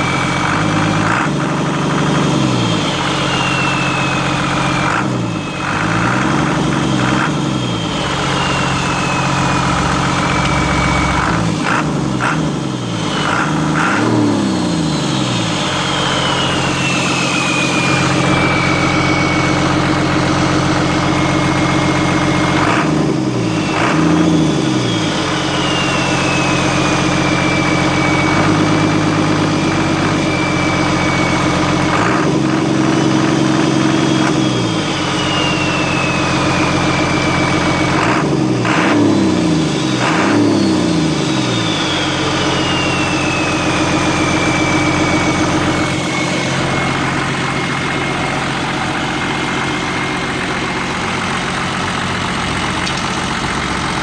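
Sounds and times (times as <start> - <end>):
turbo whistle: 0.0 - 54.0
turbocharged engine idling: 0.0 - 54.0.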